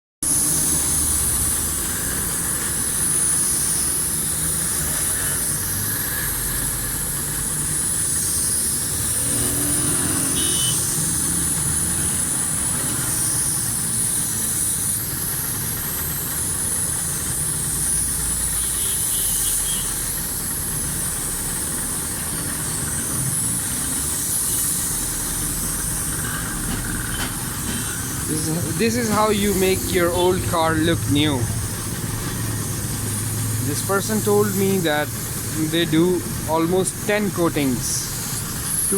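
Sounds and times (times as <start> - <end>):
high hiss: 0.2 - 38.9
motor running: 0.2 - 38.9.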